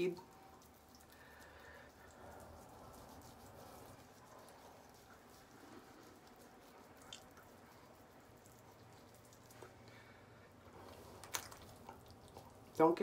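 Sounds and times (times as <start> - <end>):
wet clicks and squishes: 0.0 - 10.0, 10.8 - 12.9.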